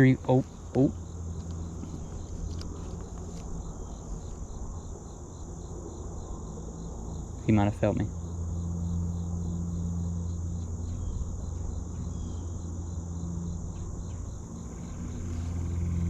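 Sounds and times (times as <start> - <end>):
insects buzzing and chirping: 0.0 - 16.0
low steady hum: 0.0 - 16.0.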